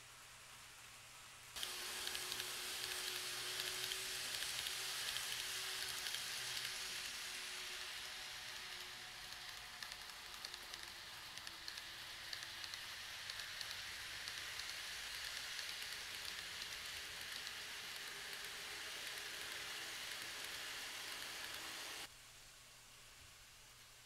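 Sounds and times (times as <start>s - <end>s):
faint steady whine: 0.0s - 24.0s
model train wheels on rail: 1.4s - 22.1s.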